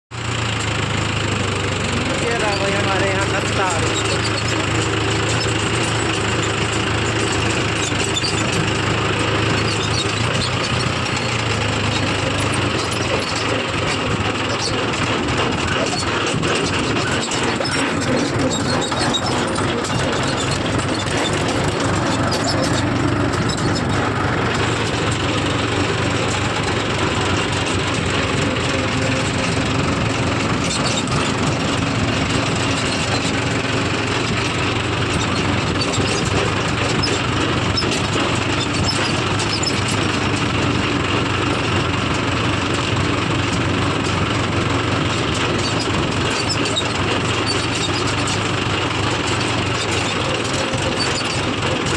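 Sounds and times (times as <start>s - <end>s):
tractor engine droning: 0.1s - 51.9s.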